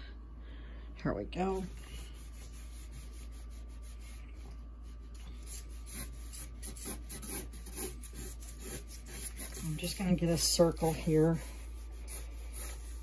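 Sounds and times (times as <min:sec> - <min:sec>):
faint steady hum: 0:00.0 - 0:13.0
marker scratching on paper: 0:01.6 - 0:13.0.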